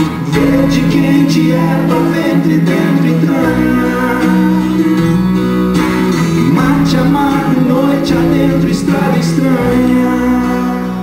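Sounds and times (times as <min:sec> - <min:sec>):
acoustic guitar playing: 0:00.0 - 0:11.0
sustained low accompanying notes: 0:00.3 - 0:11.0.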